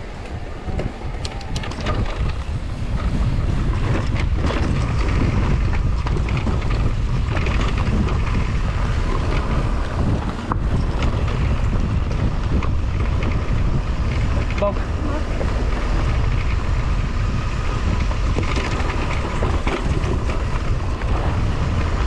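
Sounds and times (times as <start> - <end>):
wind rushing over microphone: 0.0 - 22.0
bike clicks and rattles: 0.1 - 22.0
tyre noise on dirt: 0.3 - 22.0.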